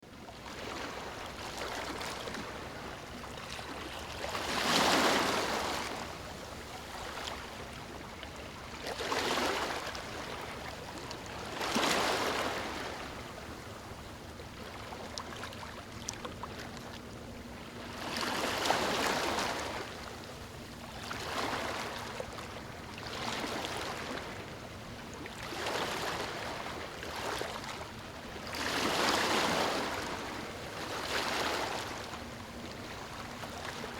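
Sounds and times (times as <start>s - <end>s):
ocean waves breaking on shore: 0.3s - 33.9s.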